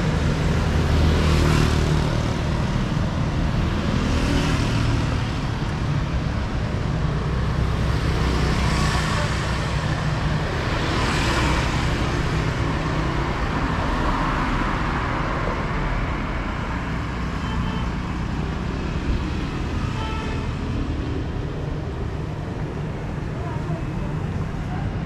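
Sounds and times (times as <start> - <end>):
road traffic passing: 0.0 - 25.0
vehicles passing close: 0.0 - 25.0.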